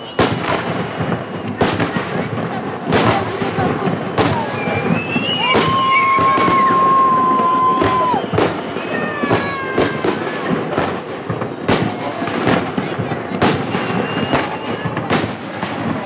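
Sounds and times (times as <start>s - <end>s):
fireworks bangs: 0.0s - 16.0s
fireworks whistling: 0.0s - 16.0s.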